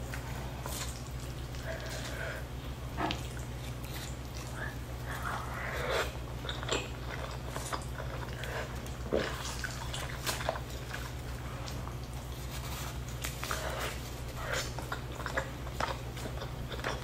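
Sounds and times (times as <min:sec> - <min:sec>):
steady low hum: 0:00.0 - 0:17.0
wet chewing and lip smacking: 0:00.0 - 0:17.0.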